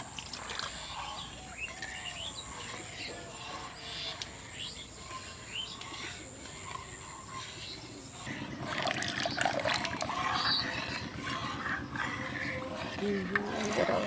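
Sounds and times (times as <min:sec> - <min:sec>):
milk swishing: 0:00.0 - 0:14.0.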